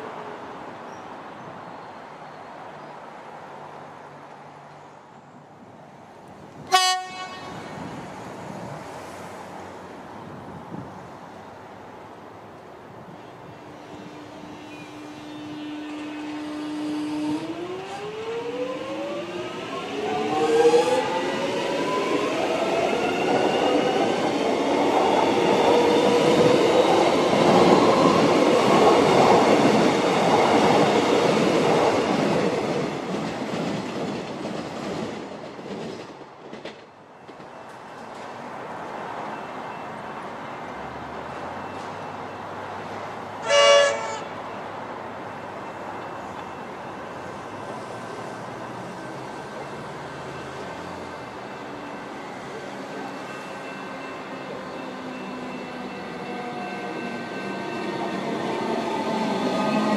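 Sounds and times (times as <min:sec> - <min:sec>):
wheel and rail noise: 0:03.7 - 0:59.9
electric train hum: 0:05.9 - 0:39.4, 0:40.7 - 0:59.9.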